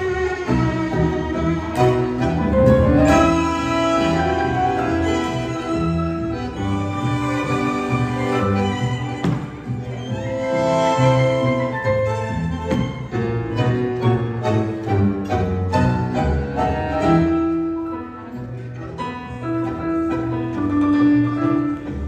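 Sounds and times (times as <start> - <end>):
double bass: 0.0 - 22.0
piano: 0.0 - 22.0
plucked and bowed strings: 0.0 - 22.0.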